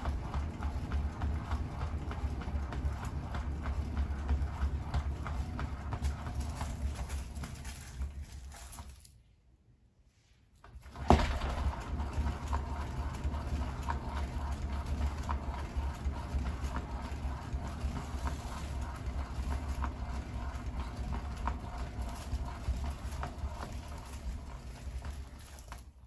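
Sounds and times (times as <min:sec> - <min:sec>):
turntable rumble: 0:00.0 - 0:08.4, 0:10.7 - 0:25.6.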